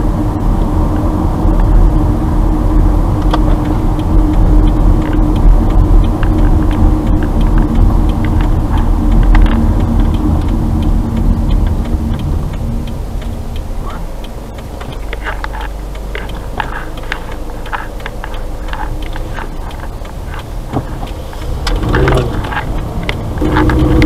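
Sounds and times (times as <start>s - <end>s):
car engine and tyres rumbling: 0.0s - 24.0s
light ticks: 0.4s - 24.0s.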